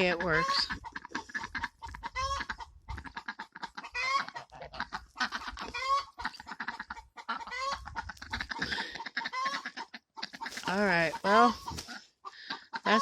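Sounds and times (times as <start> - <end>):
hen cackling: 0.0 - 13.0.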